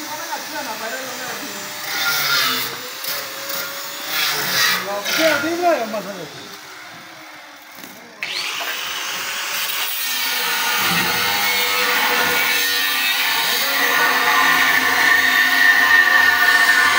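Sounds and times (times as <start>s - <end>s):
power tool running: 0.0s - 16.9s.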